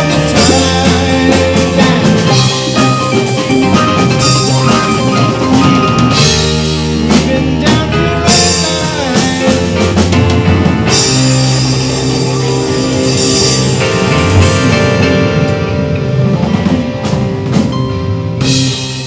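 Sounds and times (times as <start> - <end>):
rock band playing loudly: 0.0 - 19.0.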